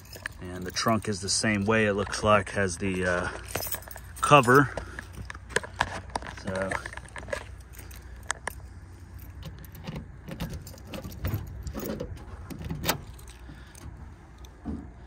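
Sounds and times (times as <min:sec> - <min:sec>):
keys jangling: 0:00.0 - 0:01.9, 0:03.2 - 0:05.5, 0:06.3 - 0:14.6
steady low rumble: 0:00.0 - 0:15.0.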